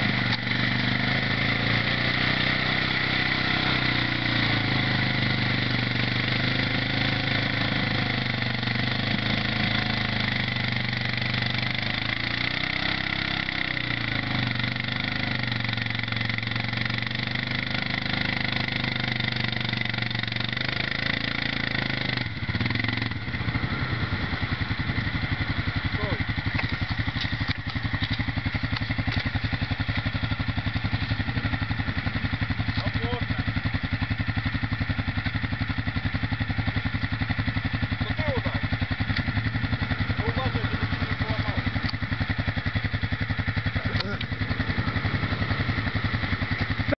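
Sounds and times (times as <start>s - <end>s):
atv engine revving under load: 0.0s - 46.9s.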